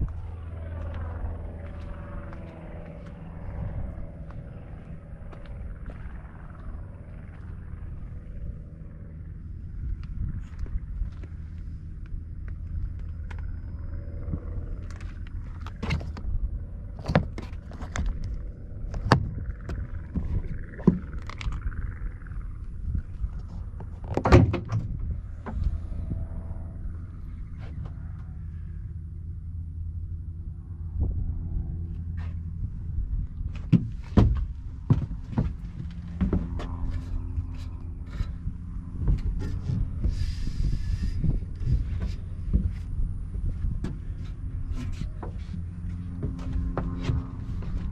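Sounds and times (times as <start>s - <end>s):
steady low rumble: 0.0s - 47.9s
truck engine running: 0.0s - 47.9s.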